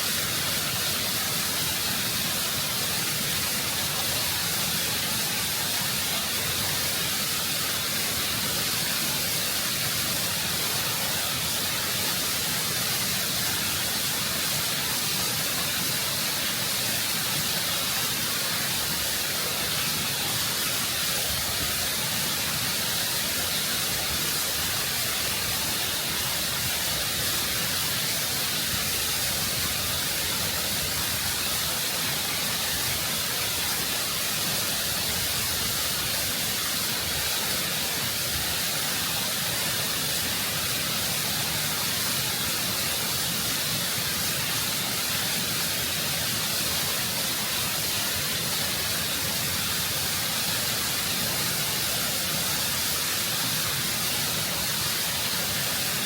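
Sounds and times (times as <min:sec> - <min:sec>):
waterfall cascading over rock: 0:00.0 - 0:56.0.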